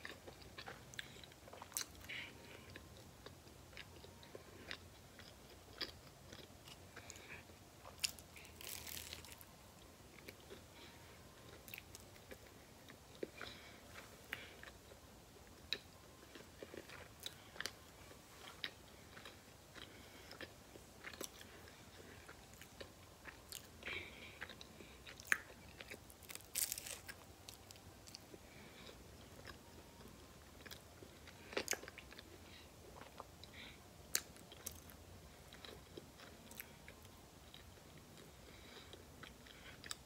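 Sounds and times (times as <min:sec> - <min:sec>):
person chewing and crunching: 0:00.0 - 0:40.0.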